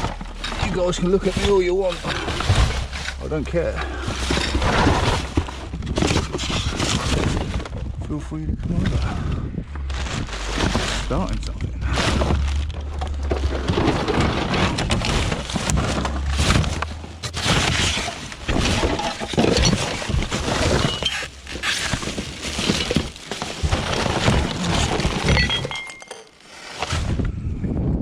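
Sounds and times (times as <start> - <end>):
low rumble: 0.0 - 26.0
scrap clattering and cracking: 0.0 - 27.3.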